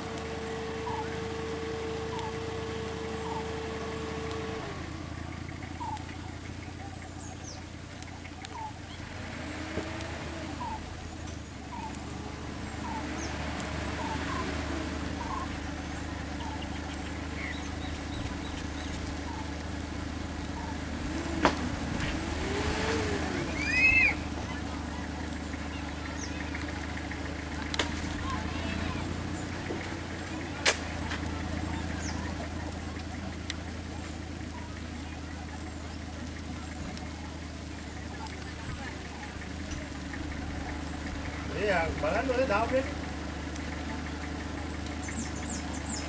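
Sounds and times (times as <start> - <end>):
vehicle engines idling: 0.0 - 46.0.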